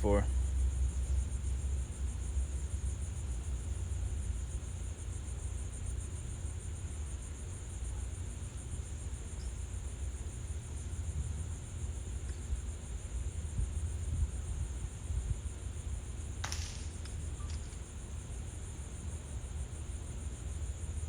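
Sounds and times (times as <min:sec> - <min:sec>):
constant low rumble: 0:00.0 - 0:21.0
insects chirring: 0:00.0 - 0:21.0.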